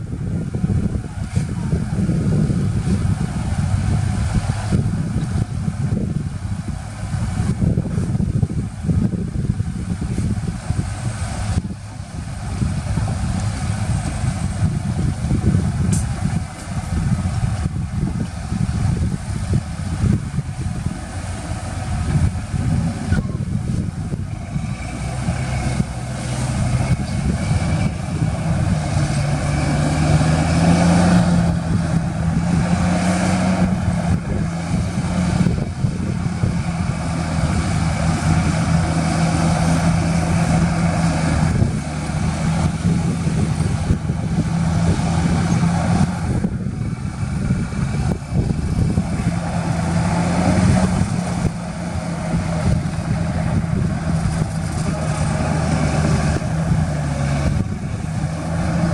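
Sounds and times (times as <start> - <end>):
heavy diesel engine running: 0.0 - 58.9.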